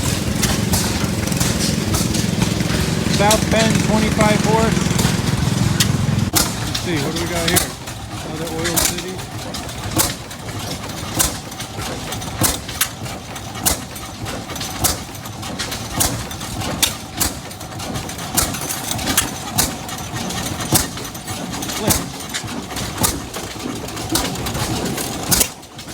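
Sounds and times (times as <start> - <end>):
sharp exhaust pops: 0.0 - 25.9
stationary engine running slowly: 0.0 - 25.9.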